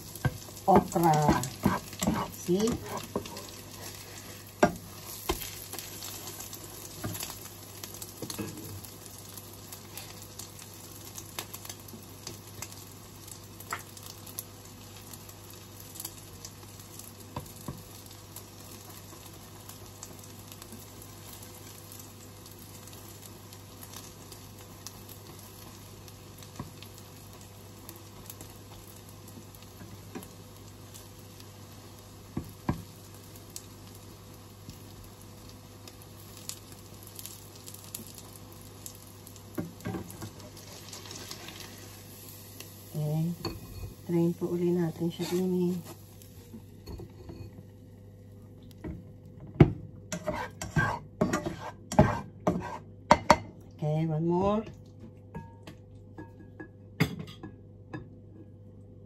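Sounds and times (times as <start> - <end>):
food sizzling in frying oil: 0.0 - 49.3, 50.0 - 53.4.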